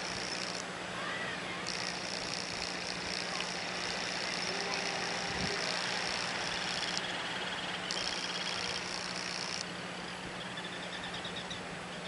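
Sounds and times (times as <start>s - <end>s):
background hiss: 0.0s - 11.9s
seabirds chattering trills: 0.0s - 12.0s.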